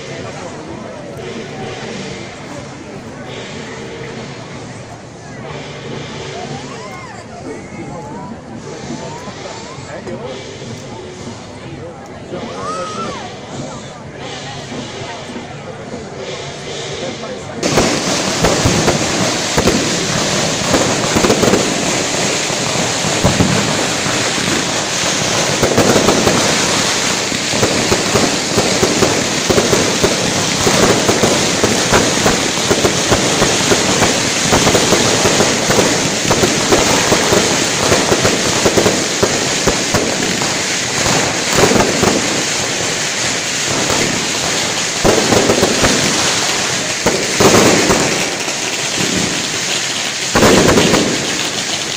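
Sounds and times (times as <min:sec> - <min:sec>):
firecrackers crackling: 0:00.0 - 0:51.9.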